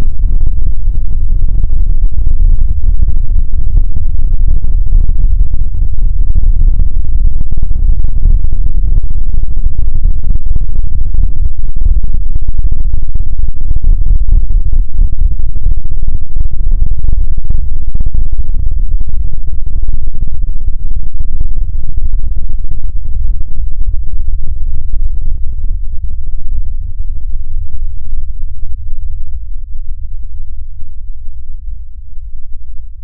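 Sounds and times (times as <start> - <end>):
deep rumbling noise: 0.0 - 33.0.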